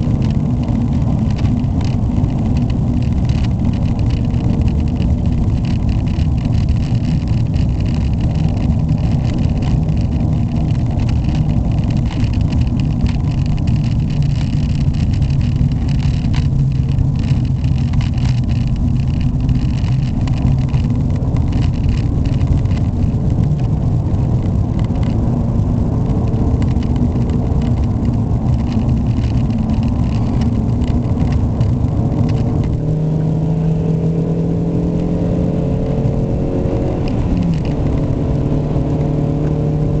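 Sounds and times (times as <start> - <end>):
car engine pulling steadily: 0.0 - 40.0
road noise: 0.0 - 40.0.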